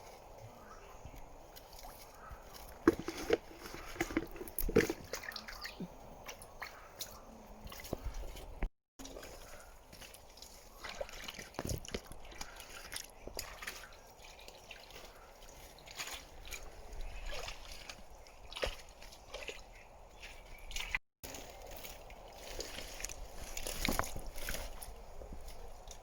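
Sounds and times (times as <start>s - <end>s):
shallow water splashing: 1.6s - 25.8s.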